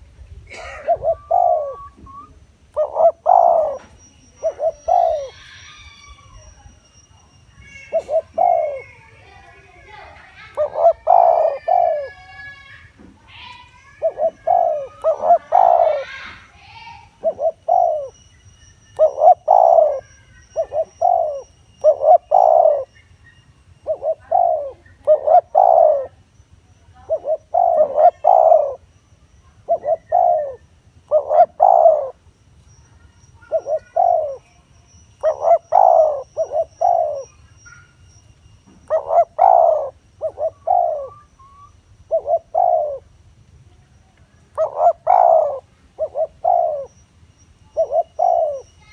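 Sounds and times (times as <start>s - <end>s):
dove cooing: 0.0s - 18.3s, 18.9s - 23.1s, 23.7s - 26.2s, 26.9s - 28.9s, 29.5s - 32.2s, 33.0s - 43.2s, 44.5s - 47.0s, 47.6s - 48.9s.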